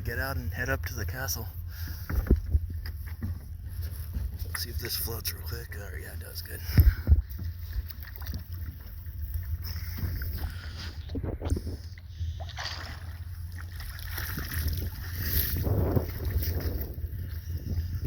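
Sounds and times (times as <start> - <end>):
water sloshing: 0.0 - 18.0
wind rumble on microphone: 0.0 - 18.0.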